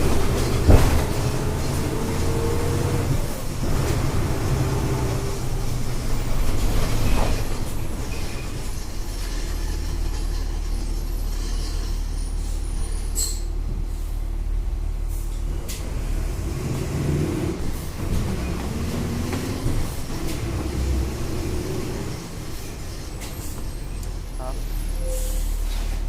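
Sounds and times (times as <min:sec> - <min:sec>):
diesel bus engine droning: 0:00.0 - 0:26.0.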